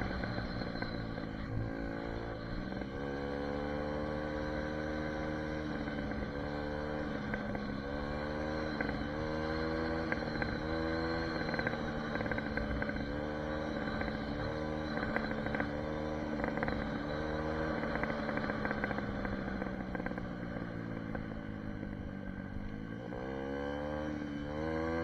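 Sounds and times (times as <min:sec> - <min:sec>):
dirt bike engine revving: 0:00.0 - 0:21.4.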